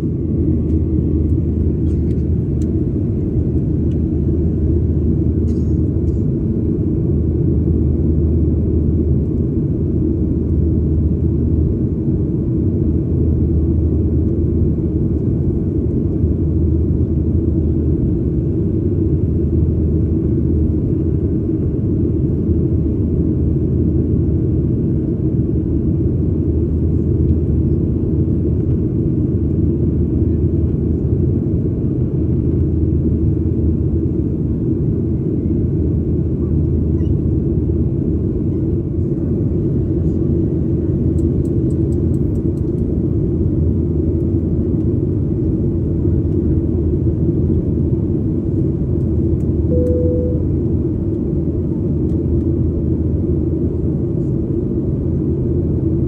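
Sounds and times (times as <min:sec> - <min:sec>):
airplane cabin engine drone: 0:00.0 - 0:56.0.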